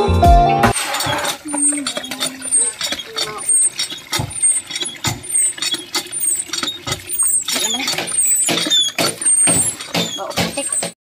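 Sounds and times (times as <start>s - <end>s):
high squeaky chirps: 0.9s - 11.0s.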